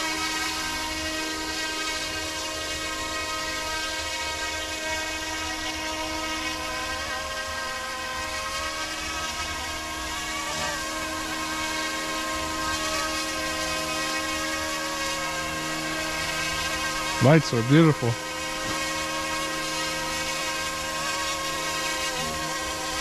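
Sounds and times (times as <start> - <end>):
toy helicopter motor whine: 0.0 - 23.0.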